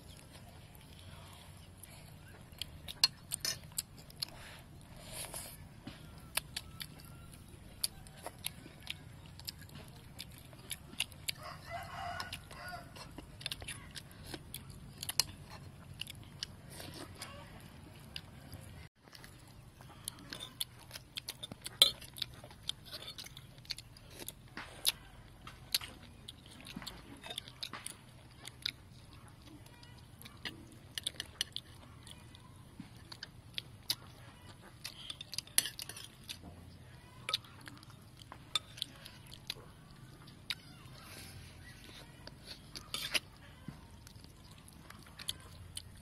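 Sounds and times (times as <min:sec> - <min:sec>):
close chewing and biting: 0:00.0 - 0:46.0.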